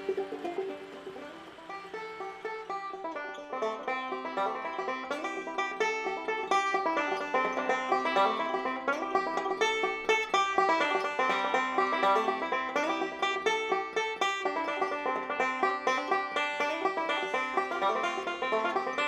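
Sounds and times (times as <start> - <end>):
acoustic banjo bluegrass tune: 0.0 - 19.0.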